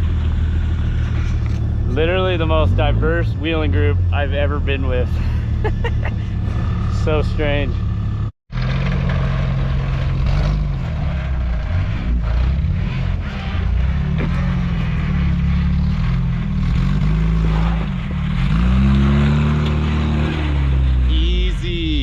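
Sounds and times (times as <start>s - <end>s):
pickup truck engine revving: 0.0s - 22.0s.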